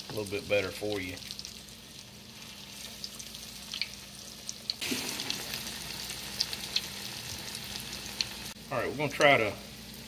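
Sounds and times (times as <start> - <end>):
patties sizzling in oil: 0.0 - 10.0.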